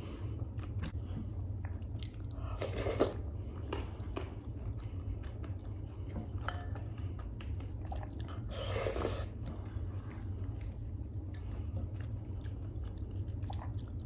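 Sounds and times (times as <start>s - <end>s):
steady low hum: 0.0s - 14.0s
close chewing with mouth clicks: 1.6s - 14.0s.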